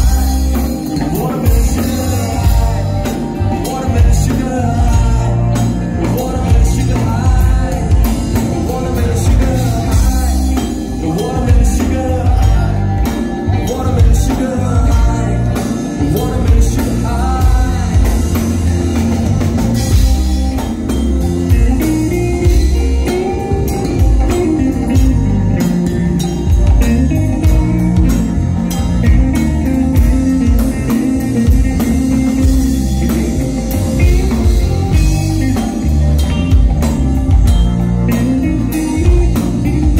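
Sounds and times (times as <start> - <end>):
live pop band playing: 0.0 - 39.9
person singing: 0.0 - 39.9.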